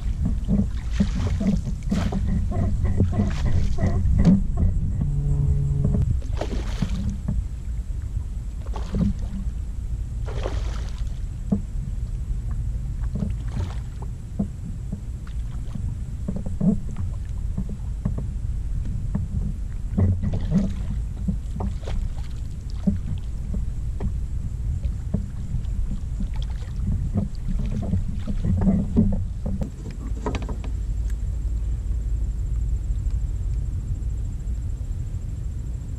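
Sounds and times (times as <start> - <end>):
knocks and bumps on kayak: 0.0 - 7.5, 8.6 - 9.6, 10.2 - 30.8
low wind rumble: 0.0 - 35.9.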